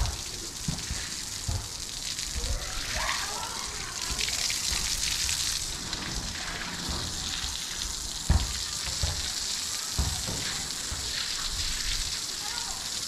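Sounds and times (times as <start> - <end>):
hose spraying on concrete: 0.0 - 13.0.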